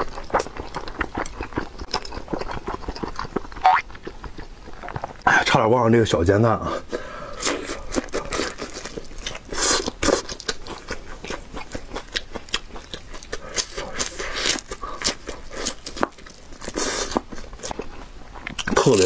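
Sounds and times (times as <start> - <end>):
crunchy chewing: 0.0 - 5.3, 6.9 - 19.0.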